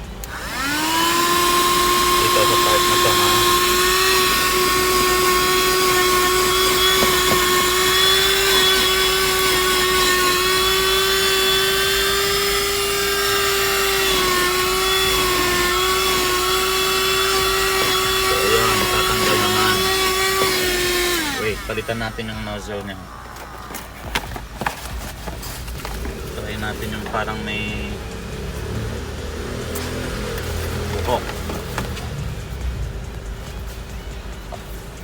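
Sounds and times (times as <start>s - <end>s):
handheld vacuum cleaner whining: 0.0s - 32.3s.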